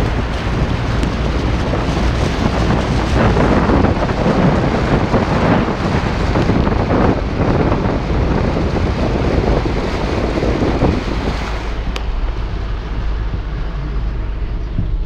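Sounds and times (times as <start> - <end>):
car engine running: 0.0 - 15.0
water rushing and splashing: 0.0 - 15.0
wind buffeting microphone: 0.0 - 15.0.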